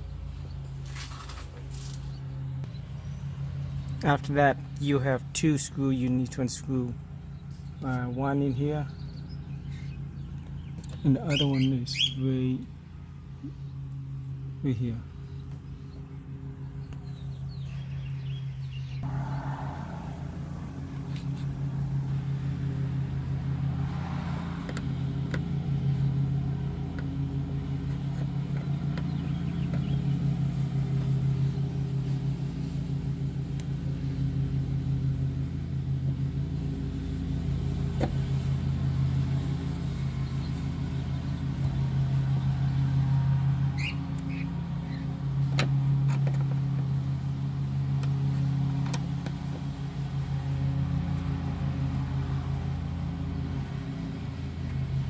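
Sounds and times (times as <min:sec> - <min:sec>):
low mechanical drone: 0:00.0 - 0:55.0.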